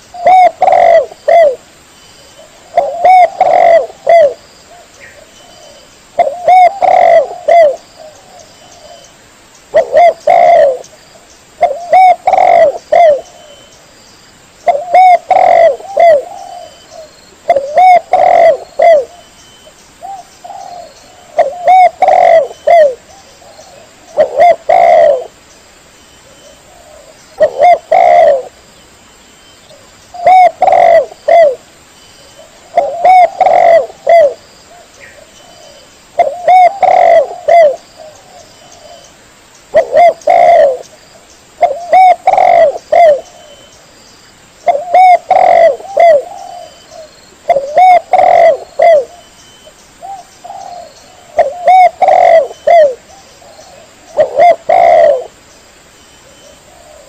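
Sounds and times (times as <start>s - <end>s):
dove cooing: 0.0s - 1.6s, 2.4s - 9.1s, 9.7s - 10.9s, 11.6s - 13.7s, 14.6s - 19.3s, 20.0s - 25.4s, 26.2s - 28.6s, 29.7s - 31.6s, 32.4s - 39.1s, 39.7s - 40.9s, 41.6s - 43.7s, 44.6s - 49.3s, 50.0s - 55.4s, 56.2s - 57.0s.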